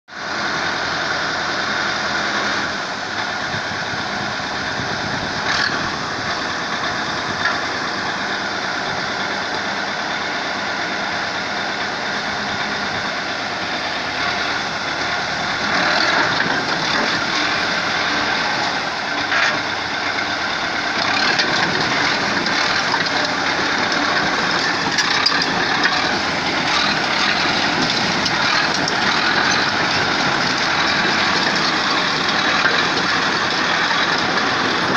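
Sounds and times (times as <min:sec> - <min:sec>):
heavy vehicle engine running: 0:00.1 - 0:34.9.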